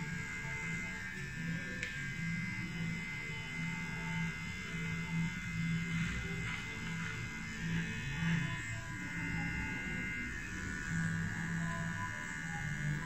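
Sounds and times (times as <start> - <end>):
electric beard clipper buzzing: 0.0 - 13.0.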